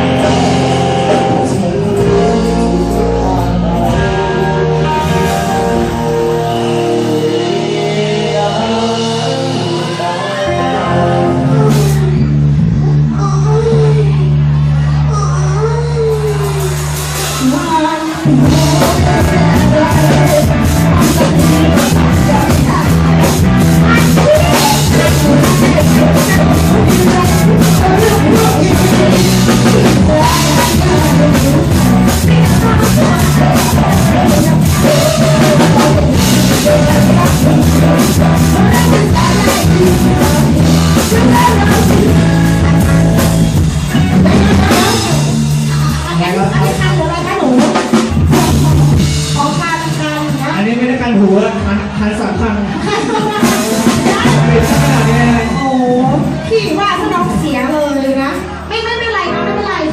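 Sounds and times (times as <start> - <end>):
drum kit beating: 0.0 - 15.0, 15.6 - 59.9
person singing: 0.0 - 50.0, 52.8 - 56.5
bass guitar: 0.0 - 59.9
live rock band playing: 0.0 - 59.9.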